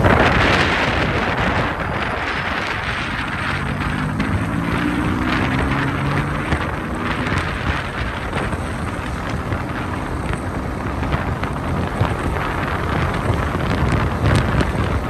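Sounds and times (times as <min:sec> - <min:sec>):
motorcycle engine hum: 0:00.0 - 0:15.0
wind rushing over microphone: 0:00.0 - 0:15.0.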